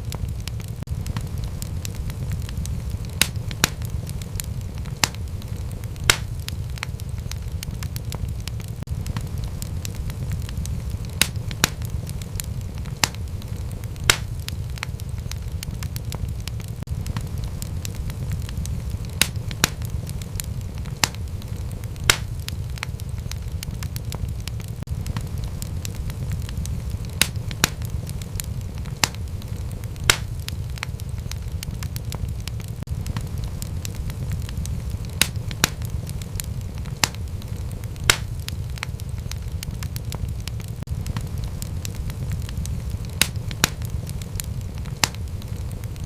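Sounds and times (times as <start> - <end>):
fire popping: 0.0 - 46.0
low rumble of flames: 0.0 - 46.0
wood fire crackling: 0.0 - 46.0.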